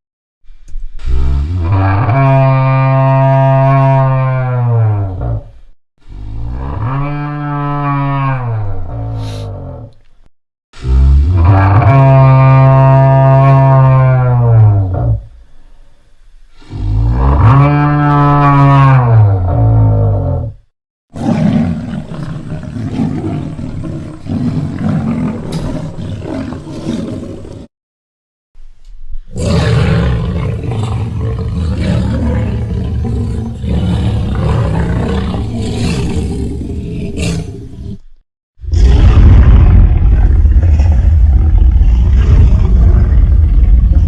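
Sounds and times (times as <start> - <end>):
dinosaur rumbling call: 1.1 - 9.9, 10.8 - 15.4, 16.6 - 20.6, 21.2 - 27.7, 29.3 - 44.0.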